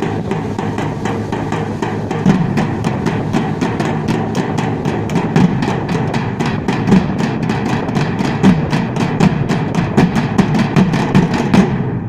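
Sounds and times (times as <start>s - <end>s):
steel drums beaten with sticks: 0.0s - 12.0s.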